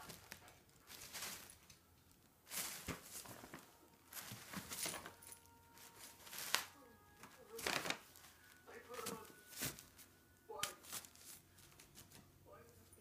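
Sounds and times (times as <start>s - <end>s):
plastic bag rustling and crinkling: 0.0s - 12.2s.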